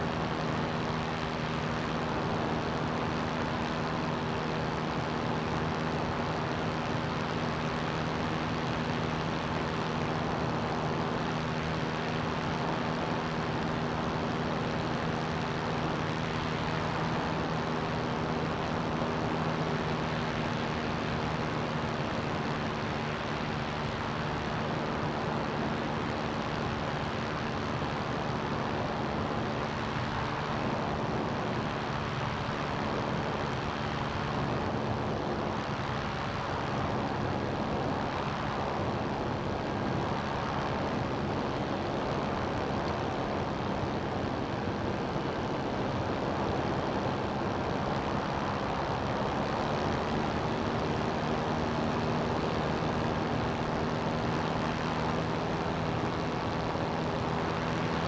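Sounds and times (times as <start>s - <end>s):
ultralight aircraft engine in flight: 0.0s - 58.0s.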